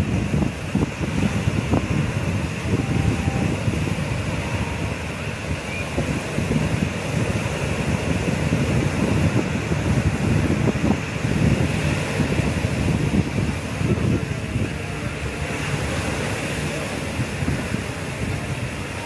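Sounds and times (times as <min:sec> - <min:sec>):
waves breaking on beach: 0:00.0 - 0:19.0
wind on microphone: 0:00.0 - 0:19.0.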